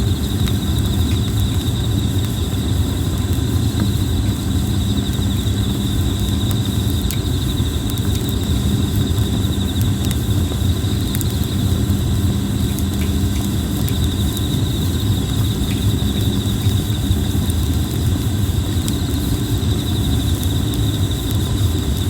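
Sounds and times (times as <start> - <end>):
insects trilling: 0.0 - 22.0
wood fire crackling and popping: 0.0 - 22.0.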